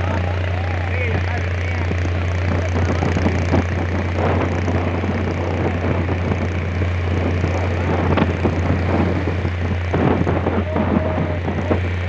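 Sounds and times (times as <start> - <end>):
speedboat engine drone: 0.0 - 12.0
wind noise: 0.0 - 12.0.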